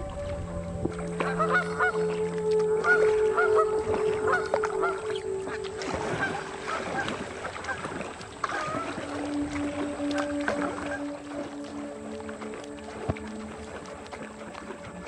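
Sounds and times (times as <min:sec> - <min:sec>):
background music: 0:00.0 - 0:15.0
geese honking: 0:00.0 - 0:15.0.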